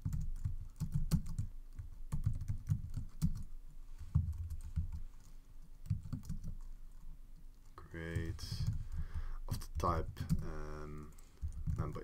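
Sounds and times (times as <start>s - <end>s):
typing on computer keyboard: 0.0s - 3.5s, 4.1s - 7.0s, 7.6s - 12.0s.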